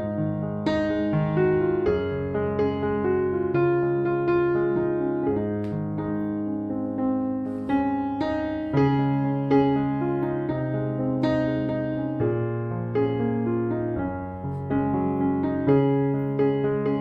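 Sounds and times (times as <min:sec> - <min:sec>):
slow solo piano piece: 0:00.0 - 0:17.0.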